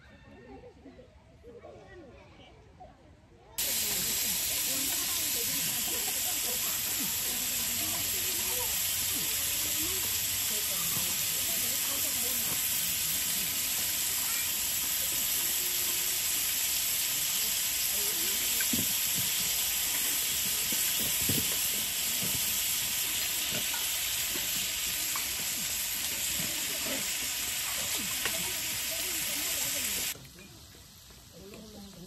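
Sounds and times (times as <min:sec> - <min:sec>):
food sizzling in a pan: 0:03.6 - 0:32.0.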